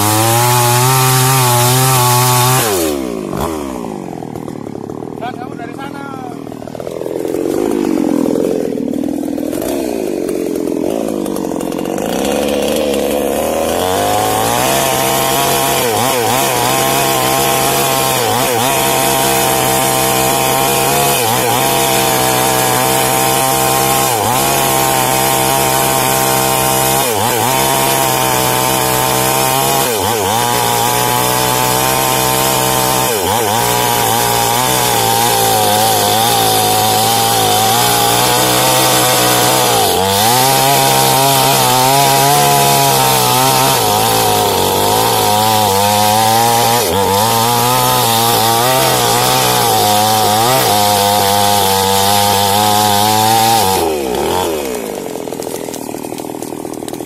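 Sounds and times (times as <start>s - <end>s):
chainsaw cutting tree trunk: 0.0s - 57.0s.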